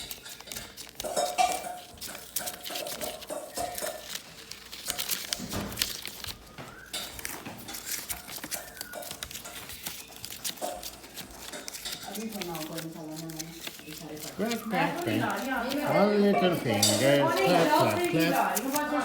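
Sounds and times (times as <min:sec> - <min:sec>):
parrot chicks chirping: 0:00.0 - 0:19.0.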